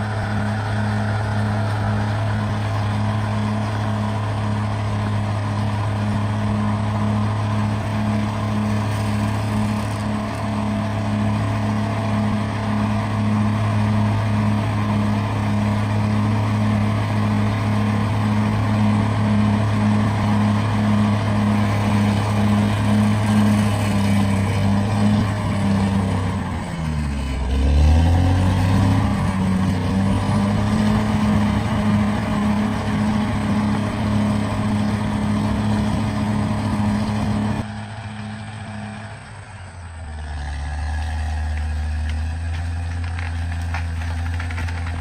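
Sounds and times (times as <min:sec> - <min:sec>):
bulldozer diesel engine under load: 0:00.0 - 0:45.0.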